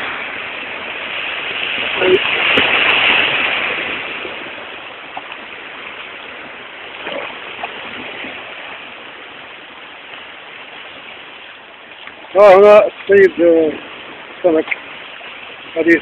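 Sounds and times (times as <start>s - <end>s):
waves washing against rocks: 0.0s - 16.0s.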